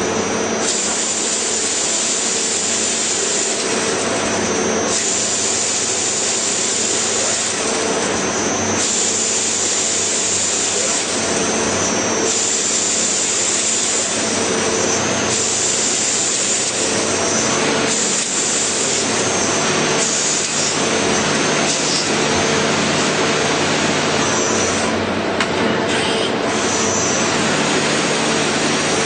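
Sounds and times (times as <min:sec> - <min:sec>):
high machine whine: 0:00.0 - 0:29.0
machine running: 0:00.0 - 0:29.0.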